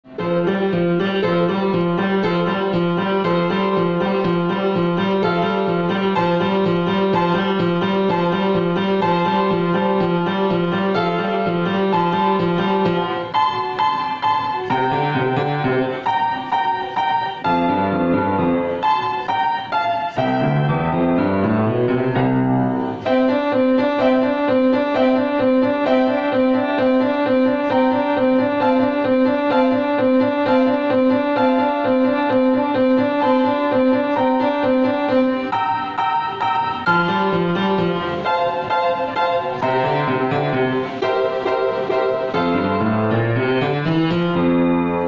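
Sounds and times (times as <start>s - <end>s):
solo grand piano: 0.0s - 45.0s.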